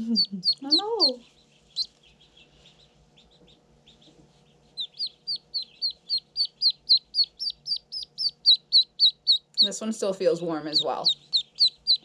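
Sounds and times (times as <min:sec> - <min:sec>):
ducklings peeping: 0:00.0 - 0:12.0.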